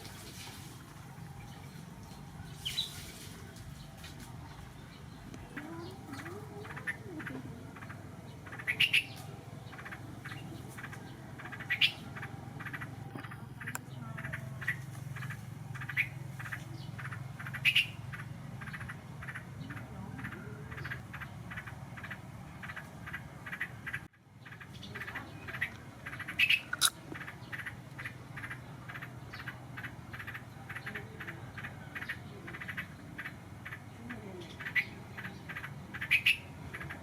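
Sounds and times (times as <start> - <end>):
low steady hum: 0.0 - 37.0
birds chirping: 0.9 - 37.0.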